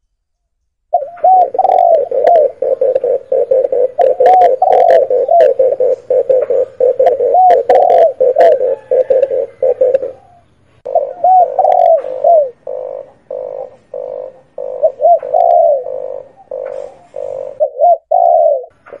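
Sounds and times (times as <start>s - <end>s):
doves cooing: 0.9s - 19.0s.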